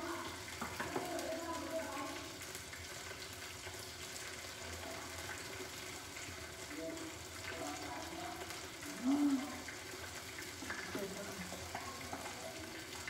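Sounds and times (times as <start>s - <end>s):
pork sizzling in oil: 0.0s - 13.0s.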